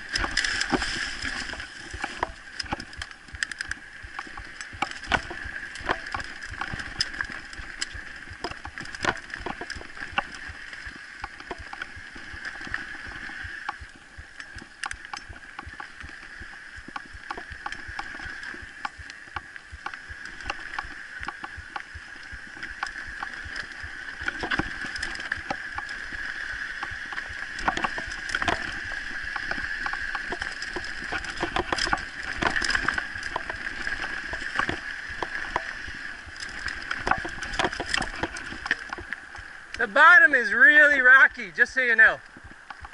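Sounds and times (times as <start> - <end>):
bike rattling over roots: 0.0 - 19.1, 19.7 - 42.9.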